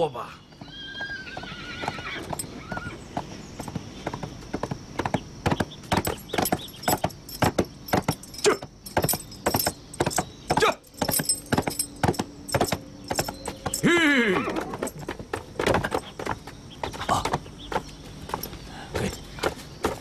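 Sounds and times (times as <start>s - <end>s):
horse hoofbeats: 0.4s - 20.0s.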